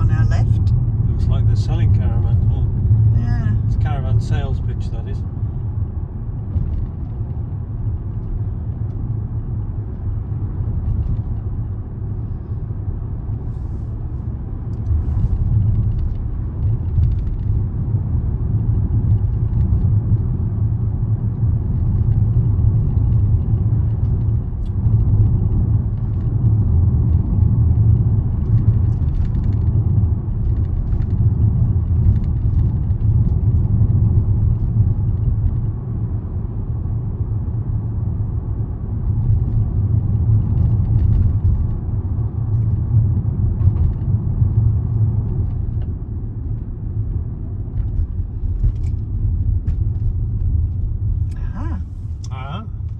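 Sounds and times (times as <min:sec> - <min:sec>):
car road and engine noise: 0:00.0 - 0:52.9.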